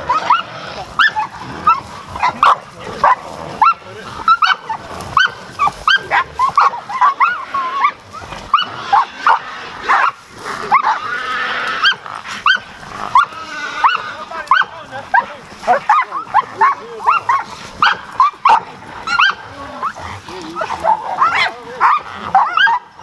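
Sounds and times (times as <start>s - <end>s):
dog rough cry: 0.0s - 23.0s
dogs barking and yelping: 0.0s - 23.0s.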